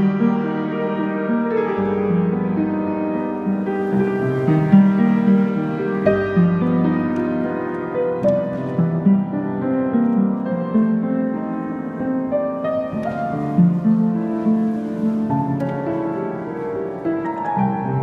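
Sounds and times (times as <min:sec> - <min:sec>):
upright piano playing classical piece: 0:00.0 - 0:18.0.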